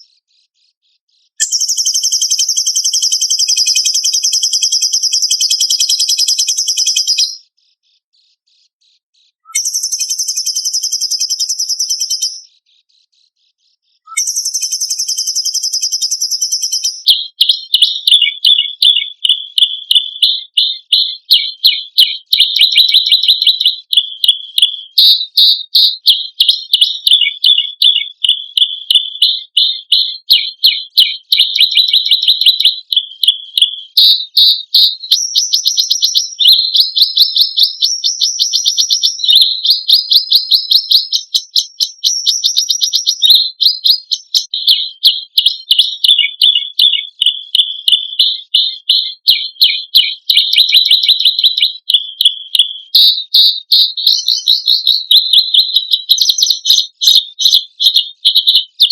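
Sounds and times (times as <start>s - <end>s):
songbird sharp high chirps: 0.0s - 58.9s.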